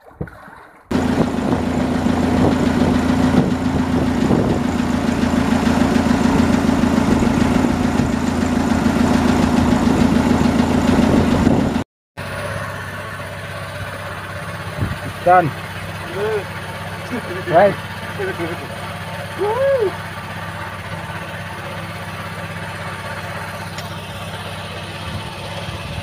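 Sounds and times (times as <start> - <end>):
boat engine droning: 0.9 - 26.0
quiet engine hum: 0.9 - 26.0.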